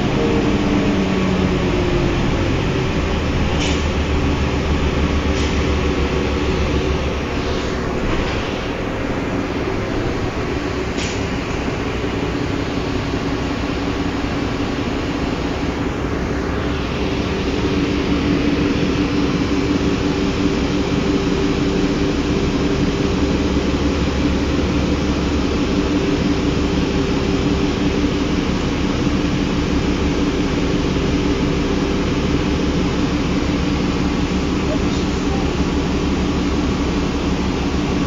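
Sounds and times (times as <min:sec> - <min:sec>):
bus diesel engine droning: 0:00.0 - 0:38.0.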